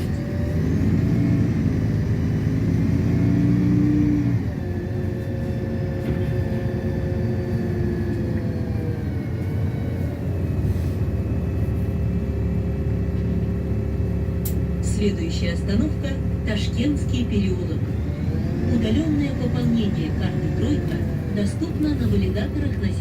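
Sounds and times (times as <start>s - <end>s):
bus engine rumbling and whining: 0.0s - 23.0s.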